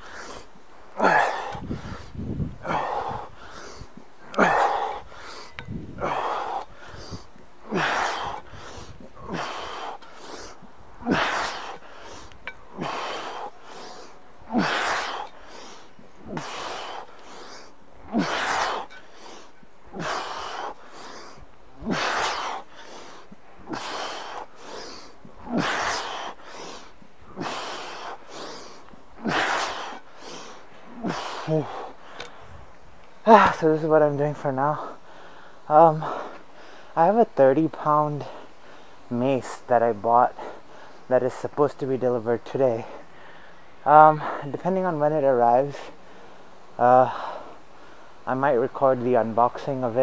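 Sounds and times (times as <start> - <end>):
man breathing hard: 0.0 - 32.8, 34.7 - 37.0, 38.2 - 39.1, 42.8 - 44.5, 45.8 - 48.3.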